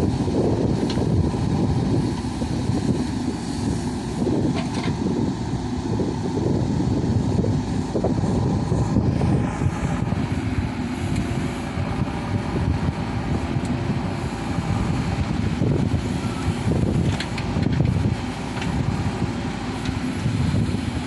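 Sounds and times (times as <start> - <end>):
diesel engine low rumble: 0.0 - 21.0.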